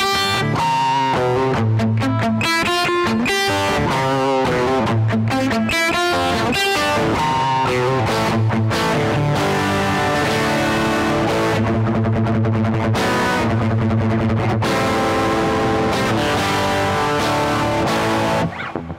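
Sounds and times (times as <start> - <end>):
distorted electric guitar riff: 0.0 - 18.9.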